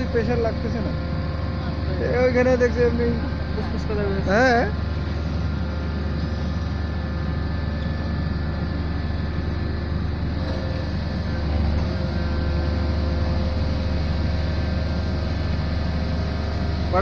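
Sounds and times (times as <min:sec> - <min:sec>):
low mechanical engine drone: 0:00.0 - 0:17.0.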